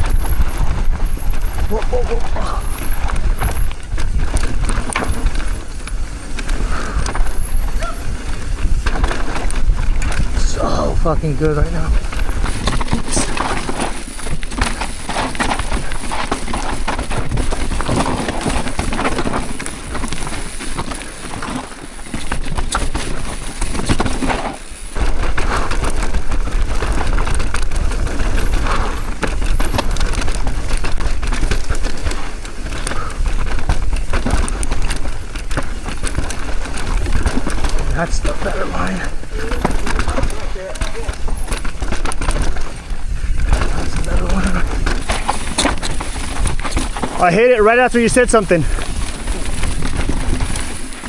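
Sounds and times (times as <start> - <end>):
wind rushing over microphone: 0.0 - 20.9, 22.2 - 51.0
bike clattering and rattling: 0.0 - 51.0
bike tyres rolling over dirt: 0.0 - 51.0.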